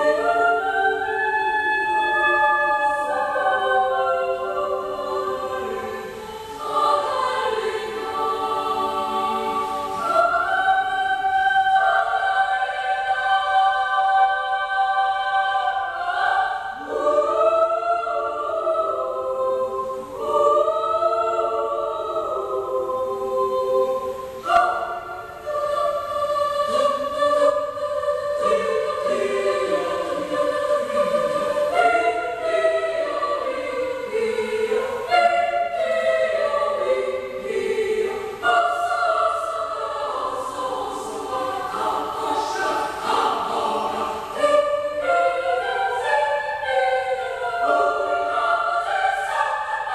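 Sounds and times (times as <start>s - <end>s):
children's choir singing: 0.0s - 49.9s.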